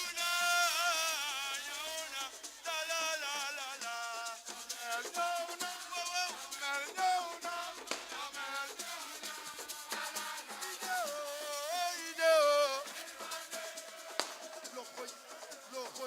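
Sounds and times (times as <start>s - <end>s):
person singing: 0.0s - 16.0s
shaker rattling: 0.0s - 16.0s.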